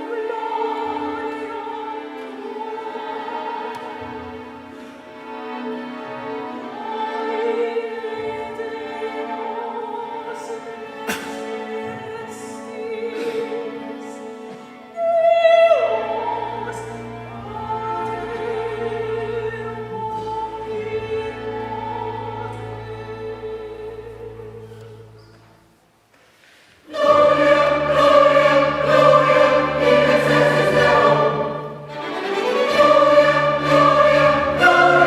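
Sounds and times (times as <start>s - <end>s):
classical solo voice singing: 0.0s - 4.4s, 6.5s - 25.3s, 26.9s - 35.0s
chamber orchestra: 0.0s - 25.8s, 26.8s - 35.0s.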